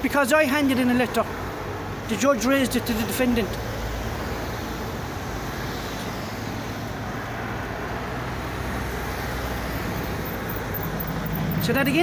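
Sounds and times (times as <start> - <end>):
cars driving past: 0.9 - 12.0.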